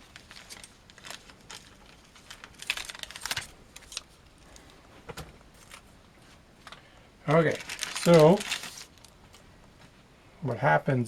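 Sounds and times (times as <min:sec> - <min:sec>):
rustling of cables: 0:00.0 - 0:10.0.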